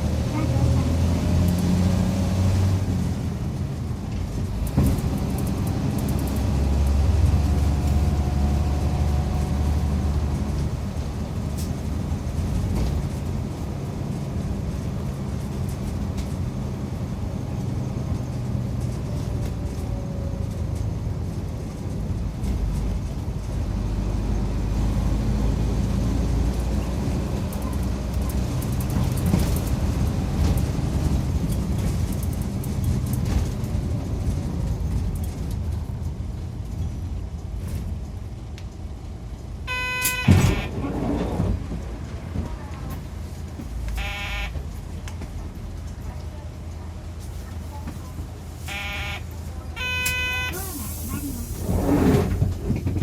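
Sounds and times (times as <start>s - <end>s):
diesel bus engine running: 0.0s - 53.0s
road noise: 0.0s - 53.0s.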